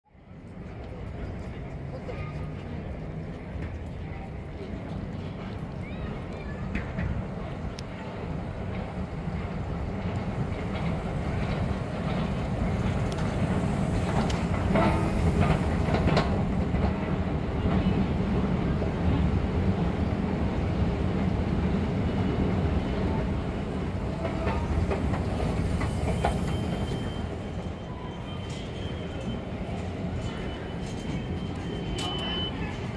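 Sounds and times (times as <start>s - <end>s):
subway train rumbling on track: 0.0s - 32.9s
wheels clicking over rail joints: 0.4s - 19.8s, 23.2s - 32.9s.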